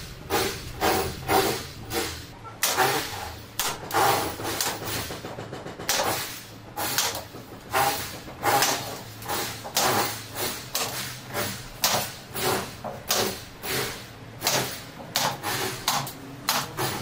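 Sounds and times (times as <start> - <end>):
plastic bead hissing and scraping: 0.0 - 5.2, 5.9 - 14.8, 15.4 - 15.9.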